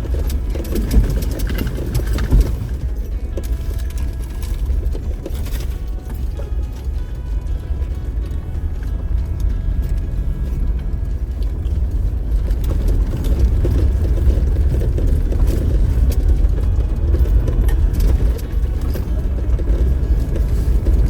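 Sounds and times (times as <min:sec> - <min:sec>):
body and suspension rattles: 0:00.0 - 0:21.0
diesel engine pulling: 0:00.0 - 0:21.0
tyres rumbling over rough trail: 0:00.0 - 0:21.0.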